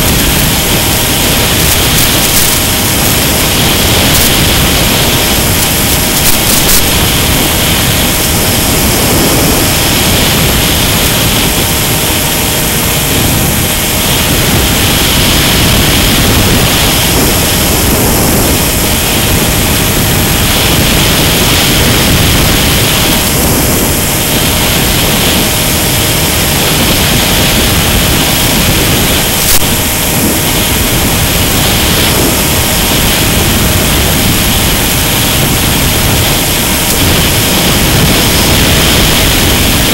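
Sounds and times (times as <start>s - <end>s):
loud rushing hiss: 0.0s - 39.9s.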